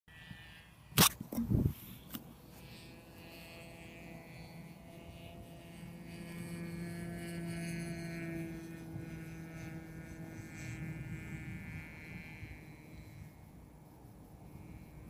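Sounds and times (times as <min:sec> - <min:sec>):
small aircraft engine hum overhead: 0:00.1 - 0:15.0.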